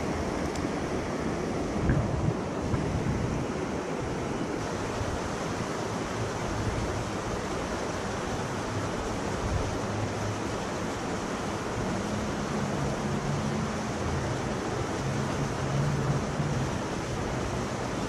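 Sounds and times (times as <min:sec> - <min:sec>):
river water rushing over rapids: 0:00.0 - 0:18.0.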